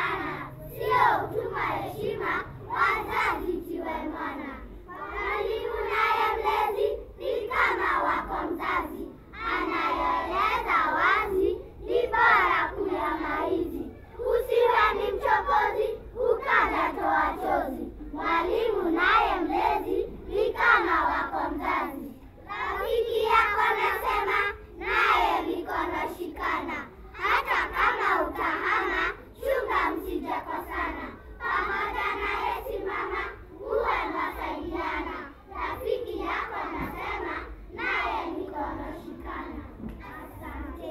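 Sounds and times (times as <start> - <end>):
children chanting in unison: 0.0 - 40.9.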